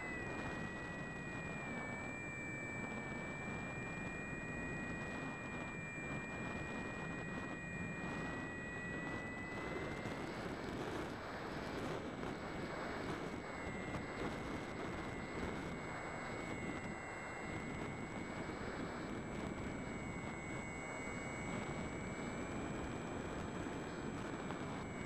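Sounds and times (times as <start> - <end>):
electric motor and propeller whine: 0.0 - 25.0.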